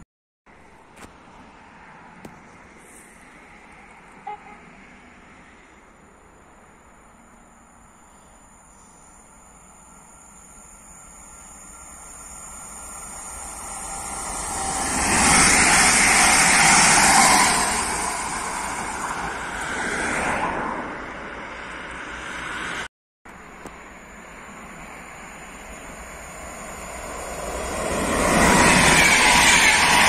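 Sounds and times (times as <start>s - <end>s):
train passing at speed: 0.7s - 30.0s.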